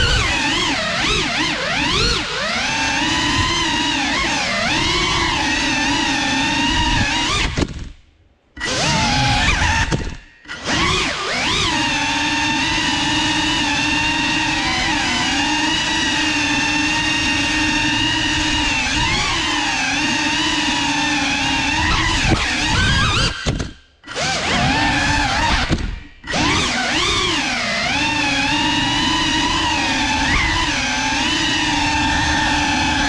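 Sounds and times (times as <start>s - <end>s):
drone motors whining: 0.0s - 8.0s, 8.6s - 33.0s.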